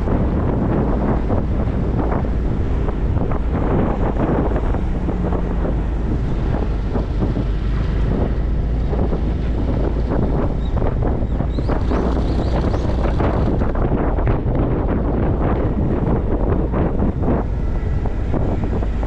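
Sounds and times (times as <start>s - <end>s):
motorcycle engine drone: 0.0s - 19.0s
road noise: 0.0s - 19.0s
wind buffeting microphone: 0.0s - 19.0s.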